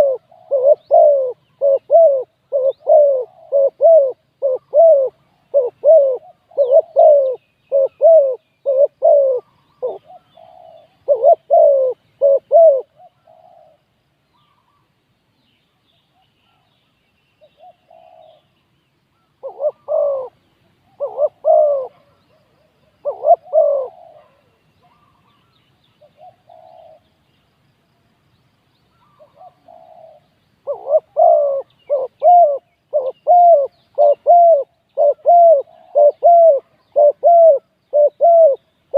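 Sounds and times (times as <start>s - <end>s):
doves cooing: 0.0s - 13.8s, 17.5s - 18.5s, 19.4s - 27.1s, 29.0s - 38.7s
small birds chirping: 0.0s - 38.9s.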